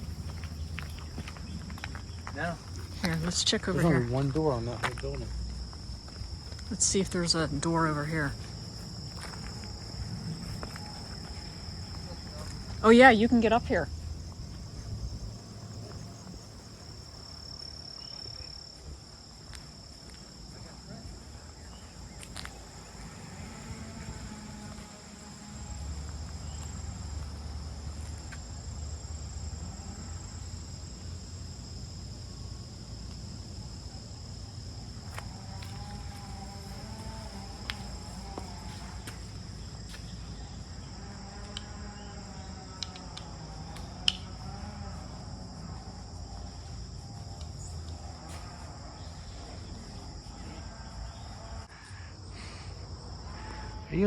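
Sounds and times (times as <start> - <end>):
insect chorus drone: 0.0 - 54.0.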